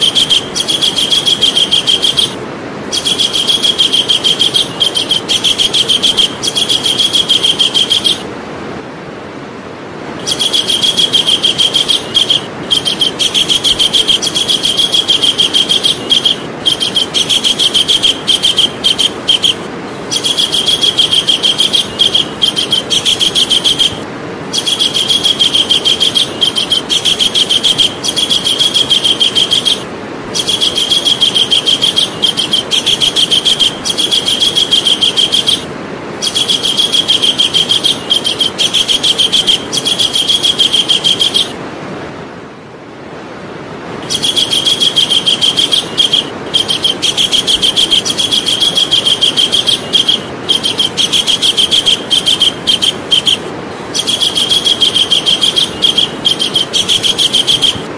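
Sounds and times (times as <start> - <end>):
kingfisher calling: 0.0 - 8.3, 10.2 - 41.6, 44.0 - 57.9
background hiss: 0.0 - 57.9.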